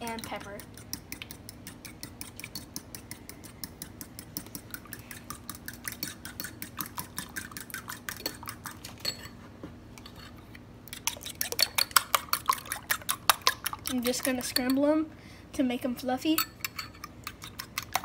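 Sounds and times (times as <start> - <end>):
utensil beating eggs in bowl: 0.0 - 9.4, 10.0 - 15.1, 16.4 - 18.0.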